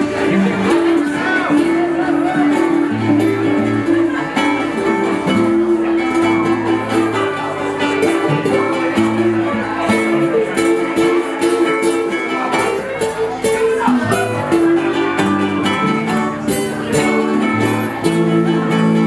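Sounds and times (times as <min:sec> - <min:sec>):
acoustic band playing: 0:00.0 - 0:19.0
strummed acoustic guitar: 0:00.0 - 0:19.0
ukulele strumming: 0:00.0 - 0:19.0.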